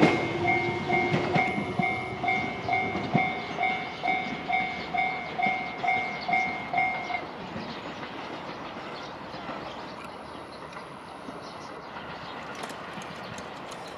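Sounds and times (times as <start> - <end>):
train rumble: 0.0 - 13.9.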